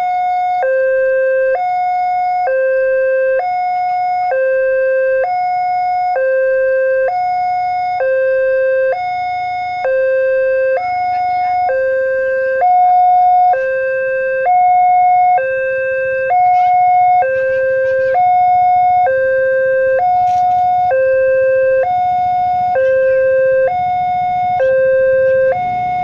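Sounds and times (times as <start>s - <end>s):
two-tone crossing alarm: 0.0s - 26.0s.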